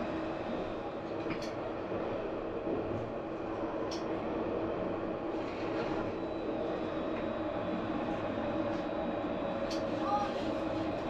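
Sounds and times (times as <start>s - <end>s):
rolling rail noise: 0.0s - 11.0s
tram motor hum: 0.0s - 11.0s.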